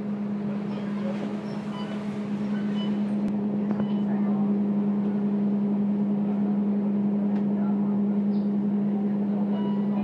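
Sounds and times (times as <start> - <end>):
bus engine humming: 0.0 - 10.0.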